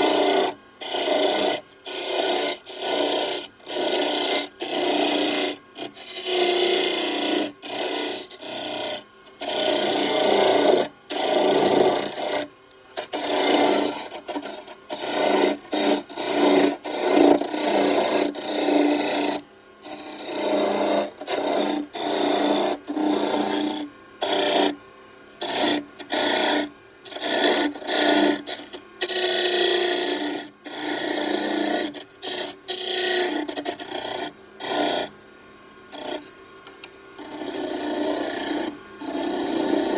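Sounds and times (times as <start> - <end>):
tool scraping wood on lathe: 0.0 - 35.2, 35.9 - 39.9.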